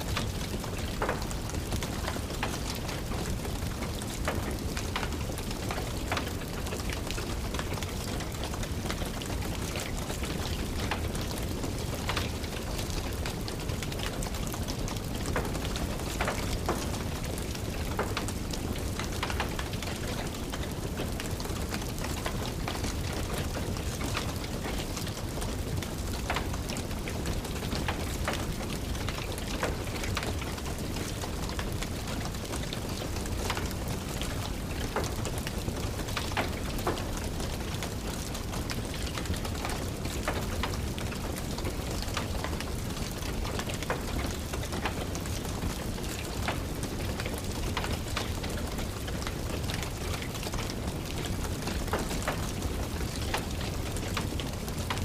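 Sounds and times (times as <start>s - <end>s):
steady rain falling: 0.0s - 55.0s
wood fire crackling and popping: 0.1s - 55.0s.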